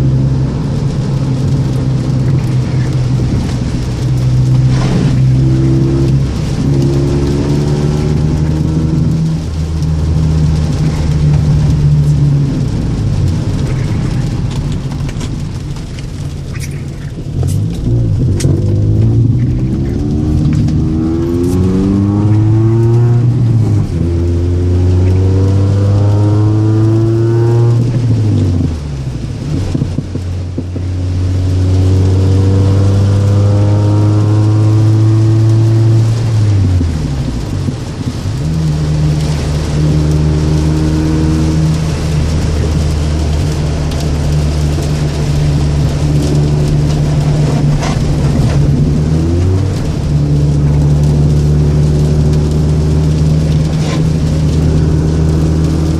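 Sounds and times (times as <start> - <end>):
car engine driving: 0.0 - 55.9.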